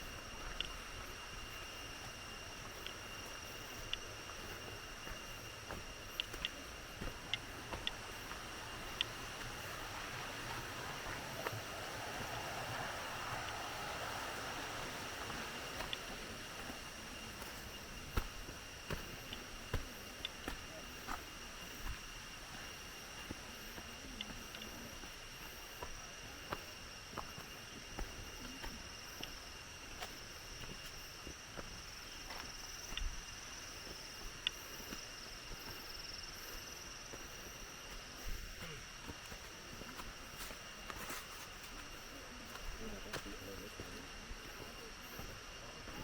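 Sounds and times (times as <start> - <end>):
footsteps on trail: 0.0 - 46.0
insects trilling: 0.0 - 46.0.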